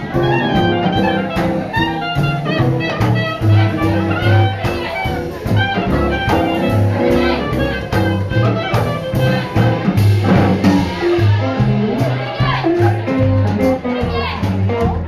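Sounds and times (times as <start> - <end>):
swing band playing jazz: 0.0 - 15.0.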